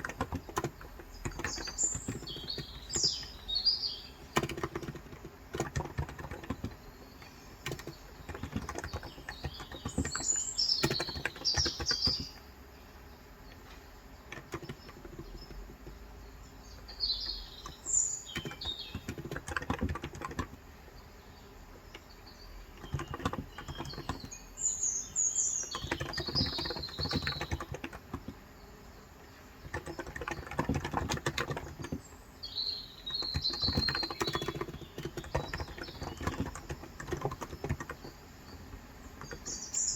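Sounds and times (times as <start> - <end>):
keyboard typing: 0.0 - 12.4, 14.2 - 20.7, 21.8 - 28.6, 29.2 - 39.9
small birds chirping: 0.0 - 39.9.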